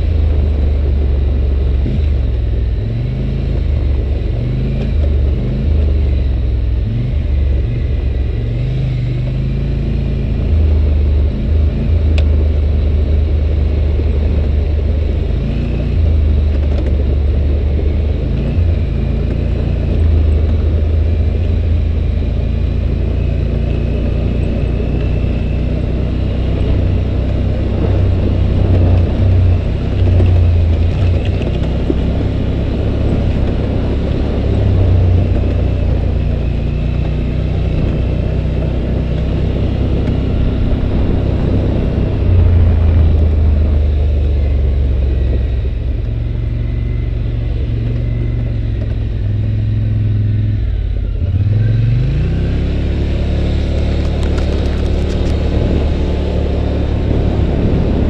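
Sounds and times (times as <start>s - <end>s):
atv engine running at low revs: 0.0s - 58.0s.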